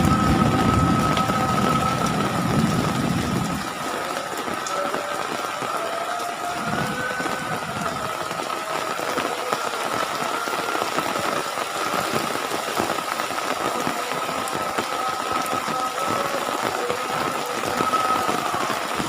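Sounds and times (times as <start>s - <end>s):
heavy rain on hard surfaces: 0.0s - 19.0s.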